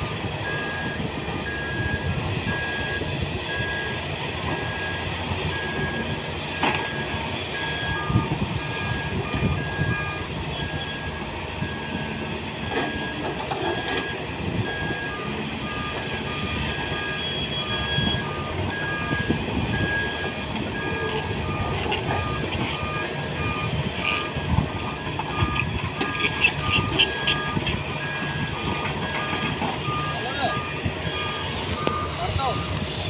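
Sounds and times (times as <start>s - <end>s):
heavy vehicle engines running: 0.0s - 33.0s
high-pitched reversing alarm beeping: 0.0s - 33.0s
low reversing alarm beeping: 0.0s - 33.0s.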